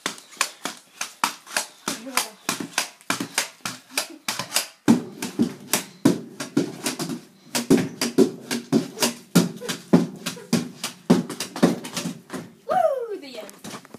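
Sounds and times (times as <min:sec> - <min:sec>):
pogo stick spring clanking: 0:00.0 - 0:12.2
pogo stick knocking on boards: 0:00.0 - 0:12.6.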